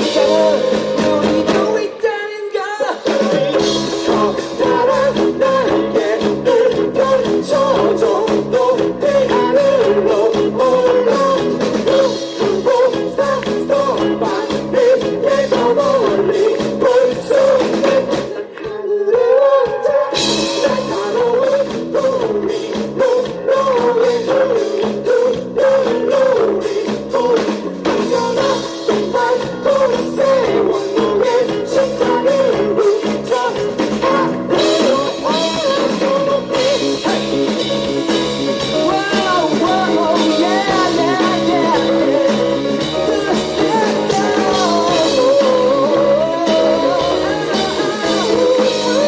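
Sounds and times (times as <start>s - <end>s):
drums keeping steady beat: 0.0s - 2.0s, 2.9s - 18.4s, 20.2s - 49.0s
rock band playing: 0.0s - 18.4s, 19.7s - 49.0s.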